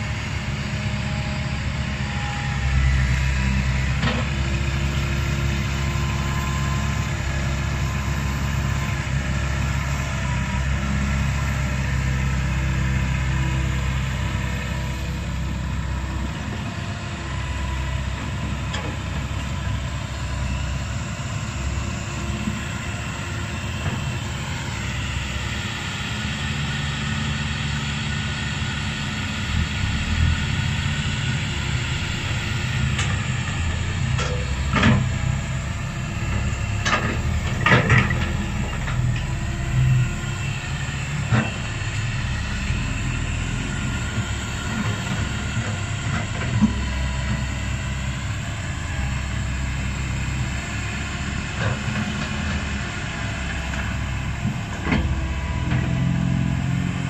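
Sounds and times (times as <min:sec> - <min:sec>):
excavator diesel engine rumbling: 0:00.0 - 0:57.0.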